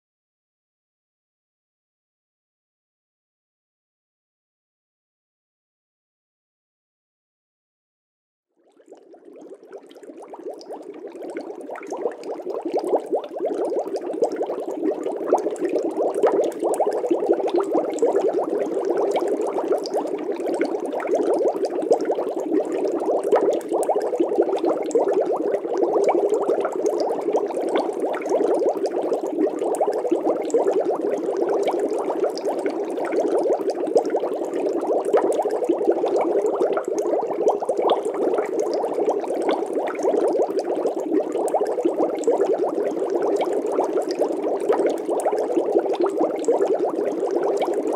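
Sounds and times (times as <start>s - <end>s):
water bubbling in fish tank: 8.6s - 47.9s.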